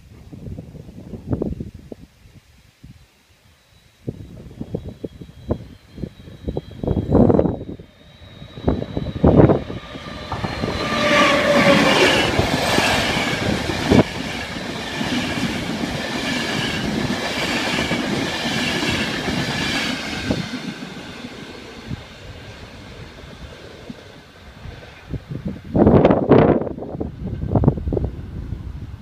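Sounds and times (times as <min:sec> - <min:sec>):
wind gusts on microphone: 0:00.0 - 0:03.0, 0:04.0 - 0:29.0
train whine passing: 0:03.4 - 0:29.0
train rumble and wheel clatter: 0:04.1 - 0:29.0.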